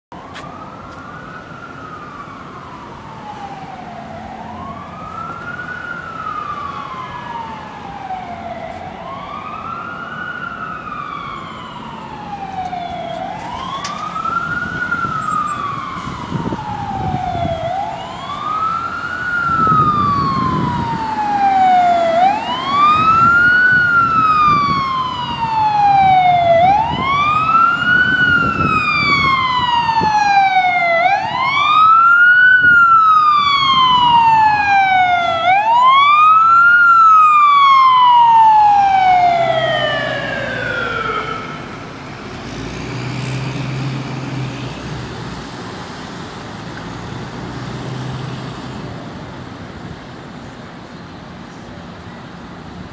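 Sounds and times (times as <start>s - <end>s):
emergency vehicle siren wailing: 0.1s - 52.9s
low traffic rumble: 0.1s - 52.9s.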